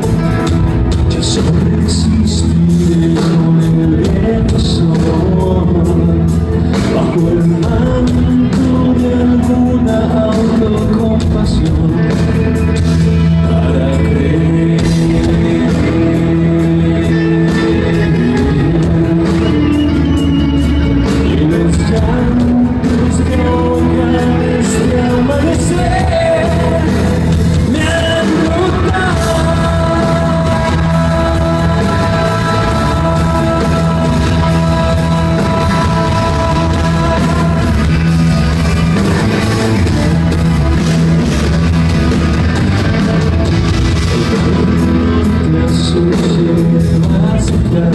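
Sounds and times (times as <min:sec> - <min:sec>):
man singing lead: 0:00.0 - 0:41.4, 0:42.4 - 0:47.9
bass: 0:00.0 - 0:47.9
drums: 0:00.0 - 0:47.9.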